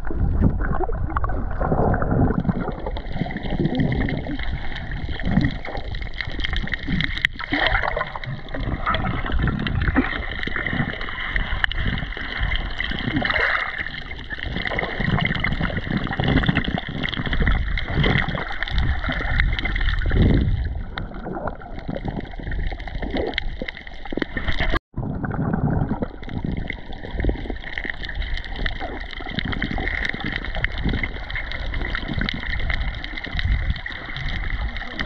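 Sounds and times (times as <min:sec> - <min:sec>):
small water splashes: 0:00.0 - 0:35.0
water sloshing and gurgling: 0:00.0 - 0:35.0.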